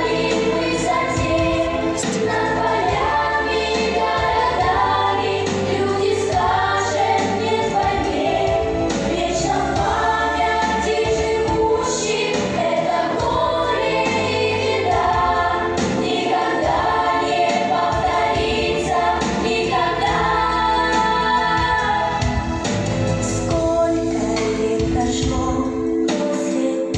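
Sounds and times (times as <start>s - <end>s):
children's choir singing: 0.0s - 26.9s
instrumental backing track: 0.0s - 26.9s.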